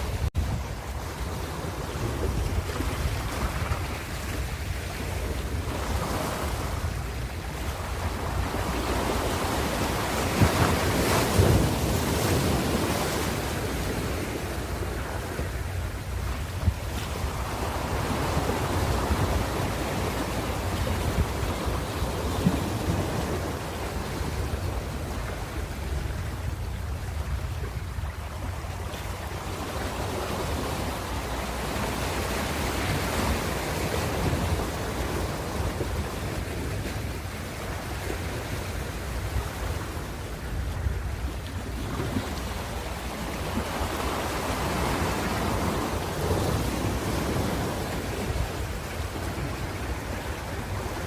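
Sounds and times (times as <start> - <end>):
ocean waves breaking on shore: 0.0 - 51.0.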